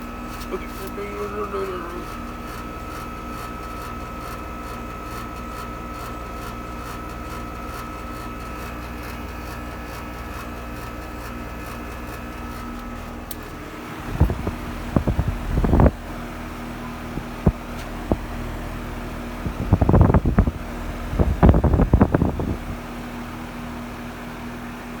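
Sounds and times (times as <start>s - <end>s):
heat pump humming: 0.0s - 25.0s.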